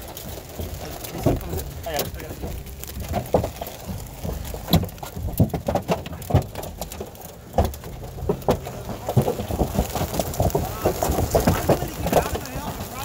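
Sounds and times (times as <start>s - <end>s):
raindrops striking a car: 0.0s - 13.0s.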